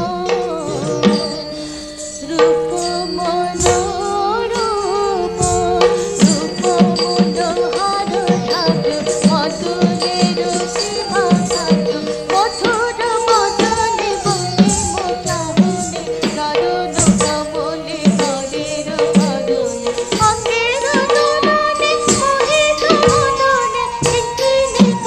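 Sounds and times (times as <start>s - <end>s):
drum strokes: 0.0s - 25.0s
jingling cymbals: 0.0s - 25.0s
person singing gliding melody: 0.0s - 25.0s.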